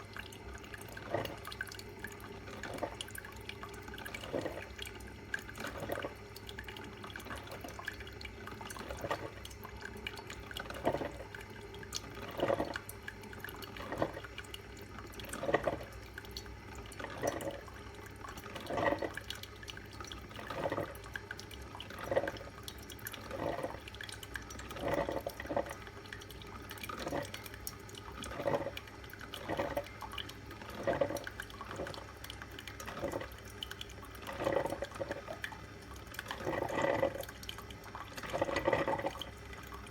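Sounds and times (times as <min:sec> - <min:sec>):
coffee dripping: 0:00.0 - 0:39.9
hot water sputtering: 0:00.0 - 0:39.9
low steady hum: 0:00.0 - 0:39.9.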